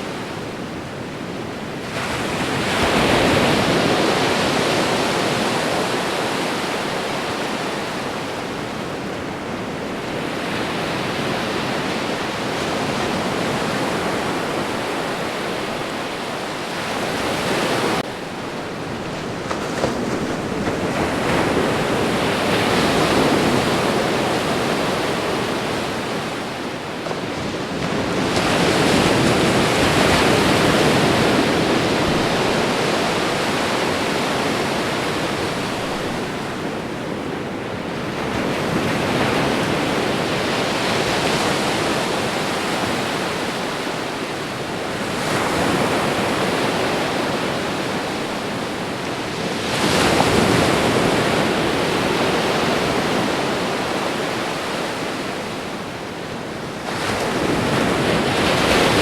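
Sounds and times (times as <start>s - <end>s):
ocean surf waves breaking: 0.0s - 59.0s.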